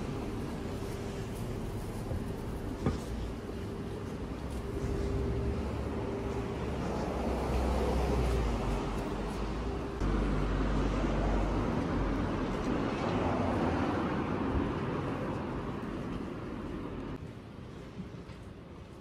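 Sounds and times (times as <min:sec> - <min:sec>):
passing vehicle rumble: 0:00.0 - 0:17.2.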